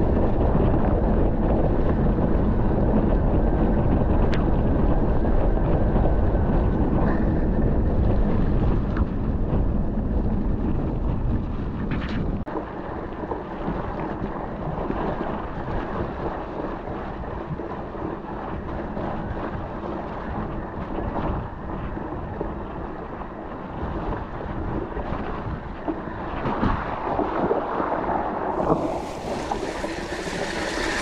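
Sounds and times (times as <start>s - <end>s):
bike rolling noise: 0.0s - 31.0s
wind buffeting microphone: 0.0s - 31.0s.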